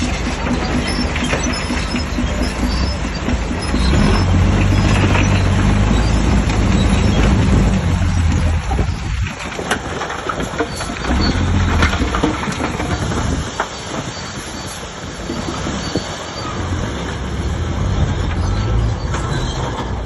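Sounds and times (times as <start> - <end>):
bulldozer diesel engine running: 0.0 - 20.0
steel tracks clanking and squealing: 0.0 - 20.0.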